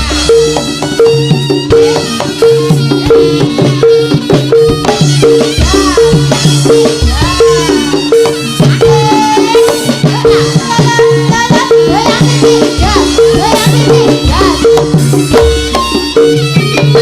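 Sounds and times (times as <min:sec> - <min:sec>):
rattling percussion: 0:00.0 - 0:17.0
struck melodic notes: 0:00.0 - 0:17.0.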